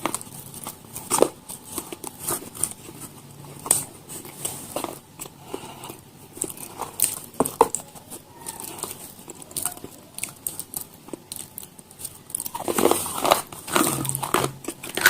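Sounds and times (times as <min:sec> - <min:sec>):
chewing crackles: 0:00.0 - 0:15.0.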